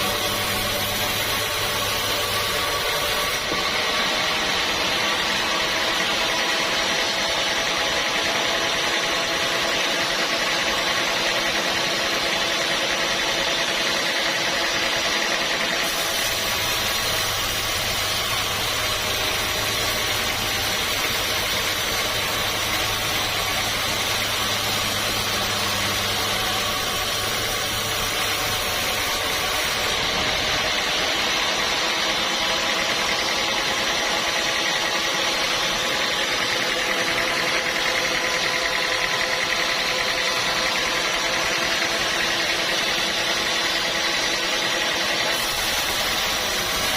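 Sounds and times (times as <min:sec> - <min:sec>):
sawmill machinery humming: 0:00.0 - 0:46.9.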